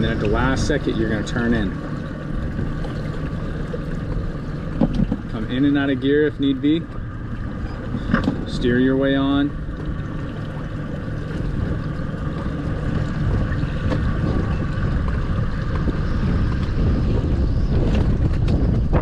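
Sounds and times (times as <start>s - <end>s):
boat motor running: 0.0s - 19.0s
wind rumbling on microphone: 0.0s - 19.0s.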